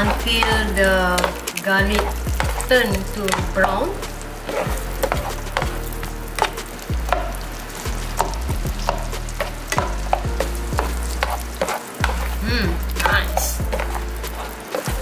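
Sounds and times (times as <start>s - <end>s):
garlic sizzling in butter: 0.0s - 15.0s
spatula scraping and tapping pan: 0.0s - 15.0s.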